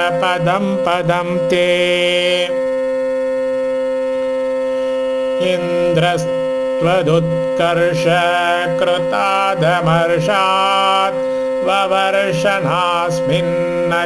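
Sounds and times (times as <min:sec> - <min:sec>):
person chanting a sung melody: 0:00.0 - 0:14.0
steady drone: 0:00.0 - 0:14.0.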